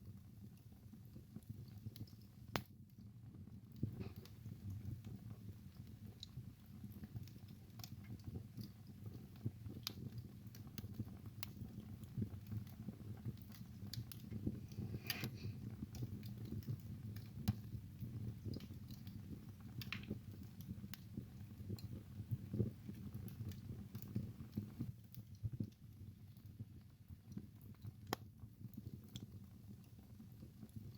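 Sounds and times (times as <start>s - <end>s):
burning logs crackling and popping: 0.0s - 30.9s
flames rumbling in fireplace: 0.0s - 30.9s.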